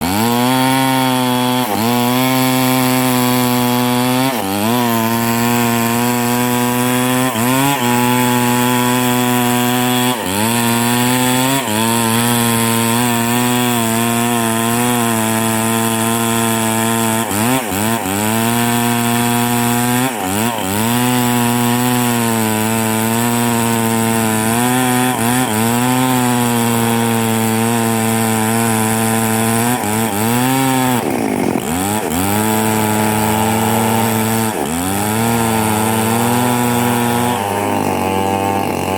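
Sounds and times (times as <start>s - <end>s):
chainsaw running: 0.0s - 38.9s.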